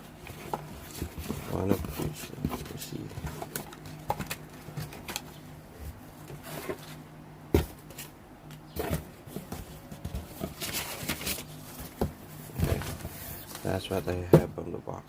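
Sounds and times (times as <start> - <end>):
rustling of unpacking: 0.0 - 7.0, 7.6 - 14.2.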